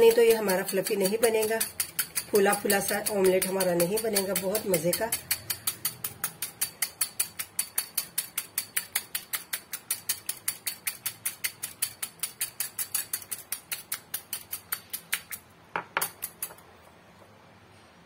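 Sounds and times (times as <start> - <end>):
whisk beating egg in glass bowl: 0.0 - 15.4.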